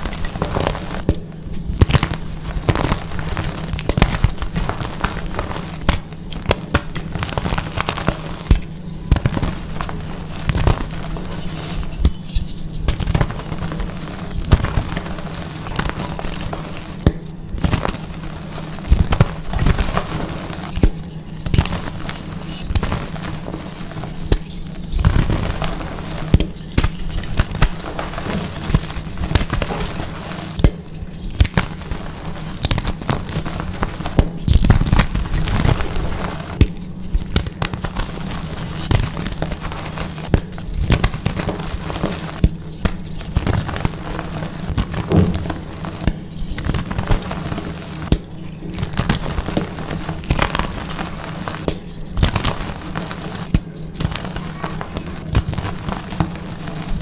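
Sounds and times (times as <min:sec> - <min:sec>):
chalk blocks crunching: 0:00.0 - 0:57.0.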